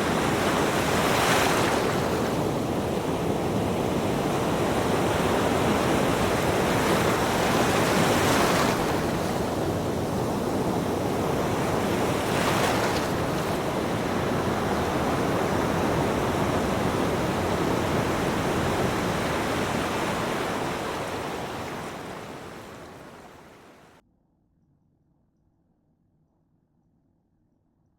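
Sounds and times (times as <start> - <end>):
ocean waves washing in: 0.0 - 24.0.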